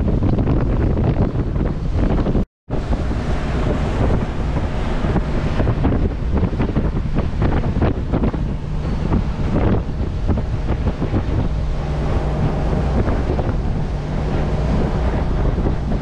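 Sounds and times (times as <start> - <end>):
strong wind on microphone: 0.0 - 16.0
waves rushing: 2.7 - 16.0.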